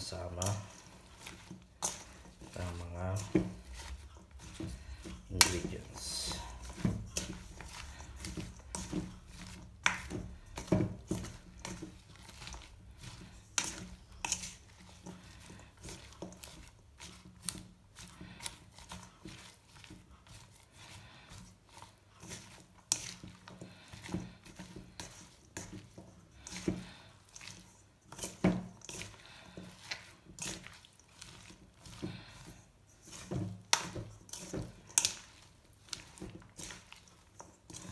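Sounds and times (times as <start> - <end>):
spatula scraping metal bowl: 0.0 - 37.9.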